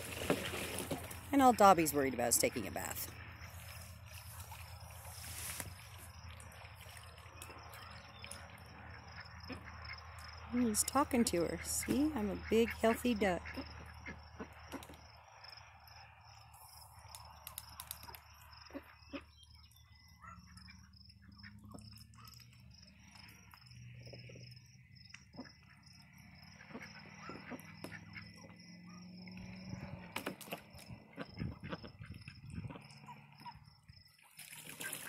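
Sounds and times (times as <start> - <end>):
ducks dabbling in water: 0.0 - 35.0
insects chirping: 0.0 - 35.0.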